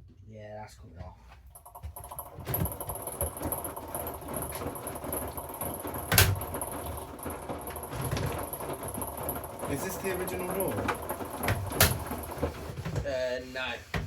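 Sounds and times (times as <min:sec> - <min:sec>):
washing machine churning: 0:01.5 - 0:14.0.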